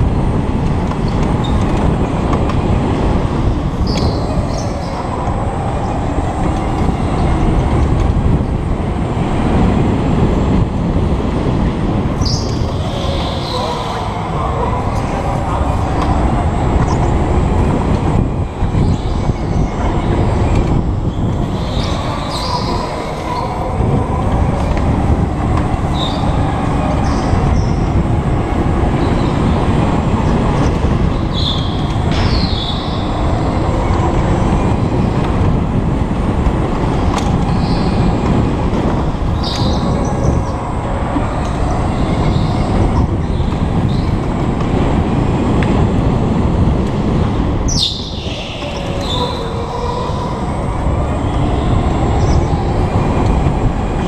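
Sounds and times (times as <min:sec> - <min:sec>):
rushing air: 0:00.0 - 0:54.0.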